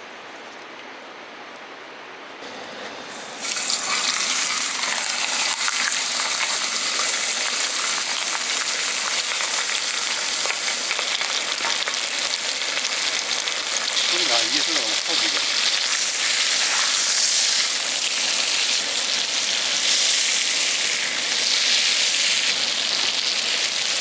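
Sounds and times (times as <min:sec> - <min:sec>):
food sizzling in a pan: 0:02.4 - 0:24.0.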